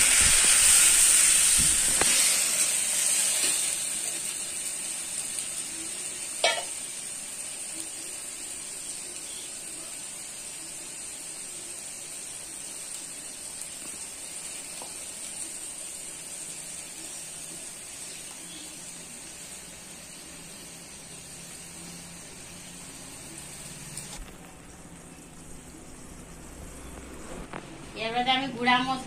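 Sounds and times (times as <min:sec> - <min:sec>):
onions frying in oil: 0:00.0 - 0:29.0.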